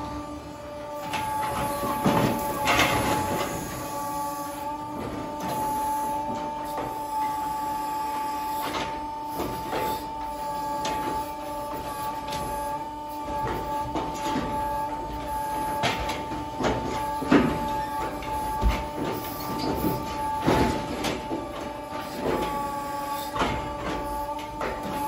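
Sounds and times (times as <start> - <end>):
hydraulic machine whine: 0.0 - 25.0.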